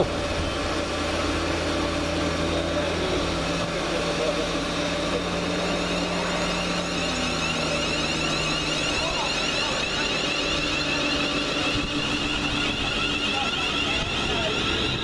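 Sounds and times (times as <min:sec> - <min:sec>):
electric train whine: 0:00.0 - 0:15.0
low hum: 0:00.0 - 0:15.0.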